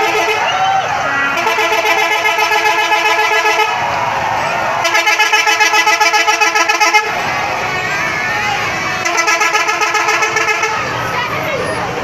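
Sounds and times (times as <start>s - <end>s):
multi-tone bus horn tune: 0.0s - 11.2s.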